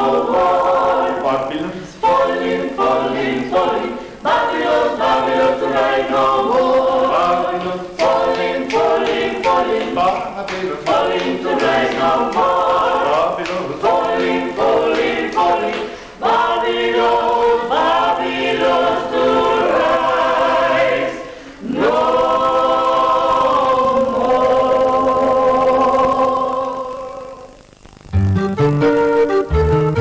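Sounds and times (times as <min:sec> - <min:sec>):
group singing unaccompanied: 0:00.0 - 0:27.6.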